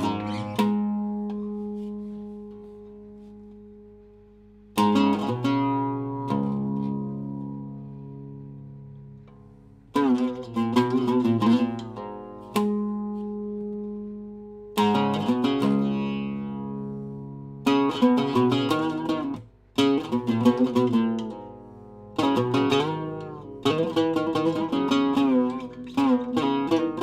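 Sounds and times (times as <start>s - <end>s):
oud plucked notes: 0.0s - 27.0s.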